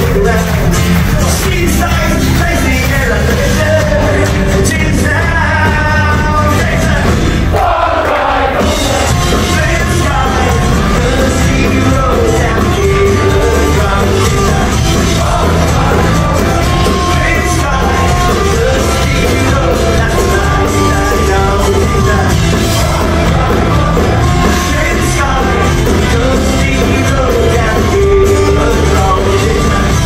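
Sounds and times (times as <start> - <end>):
folk-punk band playing live: 0.0 - 30.0.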